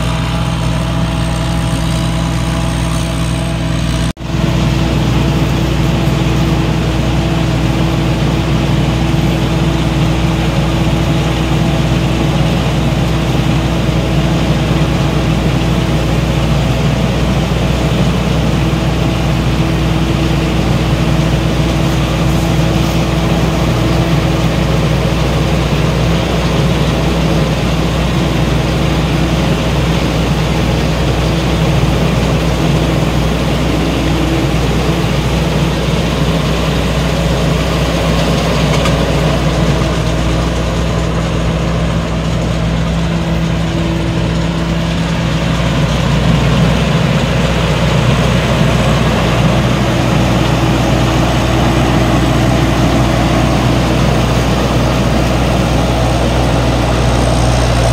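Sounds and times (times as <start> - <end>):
diesel engine drone: 0.0 - 57.9
threshing machinery rushing: 0.0 - 57.9.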